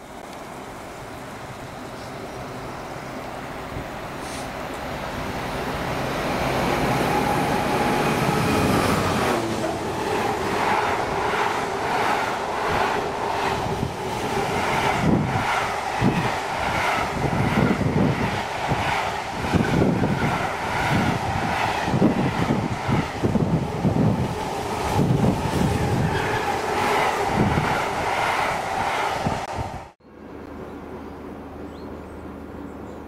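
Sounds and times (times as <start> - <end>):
diesel locomotive engine: 0.0 - 33.0.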